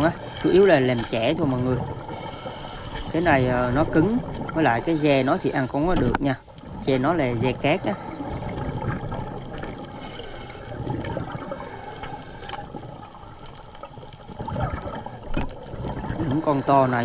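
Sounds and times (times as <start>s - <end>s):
underwater bubbling and gurgling: 0.0s - 17.0s.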